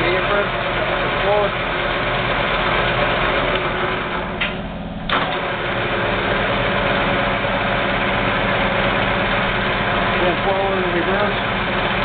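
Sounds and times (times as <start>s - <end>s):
lathe running with gear whine: 0.0s - 12.0s.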